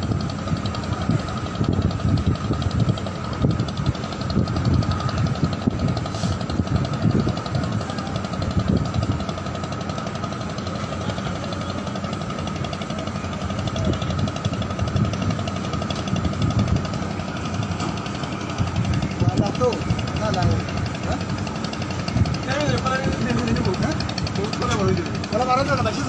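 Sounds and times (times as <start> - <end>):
ship engine knocking: 0.0 - 26.0
steady whine: 0.0 - 26.0.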